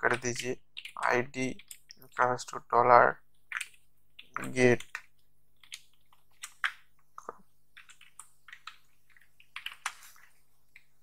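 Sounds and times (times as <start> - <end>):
computer keyboard typing: 0.0 - 2.2, 3.3 - 11.0.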